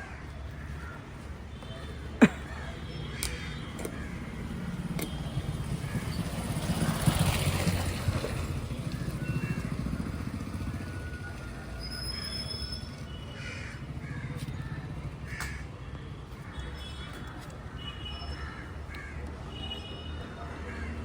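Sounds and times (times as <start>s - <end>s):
vehicle engine humming: 0.4s - 17.8s.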